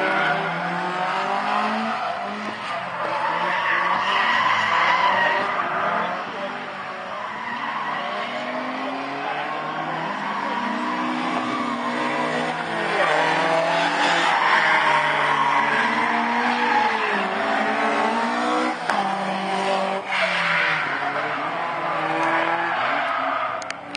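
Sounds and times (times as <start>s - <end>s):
car engine revving: 0.0s - 23.9s.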